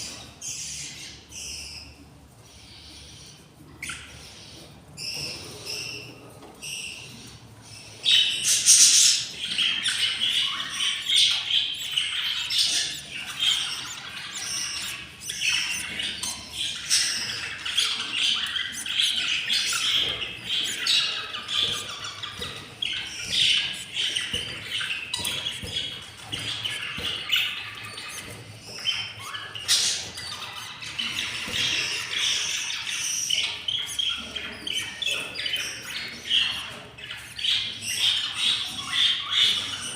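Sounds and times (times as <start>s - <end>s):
budgerigars squawking and chirping: 0.0s - 39.9s.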